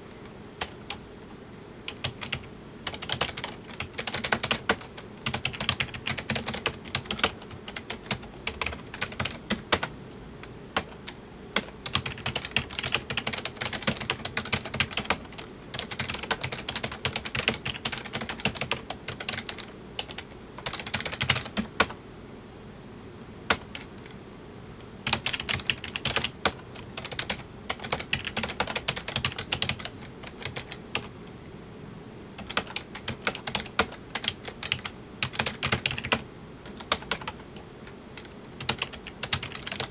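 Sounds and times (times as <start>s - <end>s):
typing on a keyboard: 1.9s - 9.9s, 10.8s - 22.0s, 25.0s - 31.1s, 32.4s - 37.6s, 38.2s - 39.9s.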